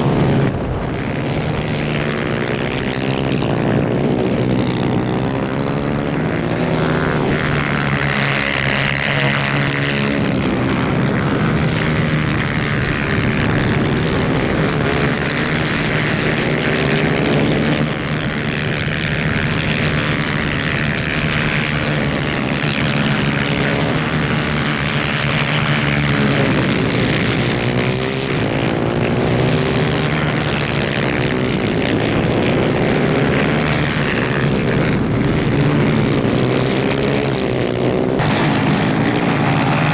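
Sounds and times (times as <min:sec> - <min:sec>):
kart engines revving: 0:00.0 - 0:39.9.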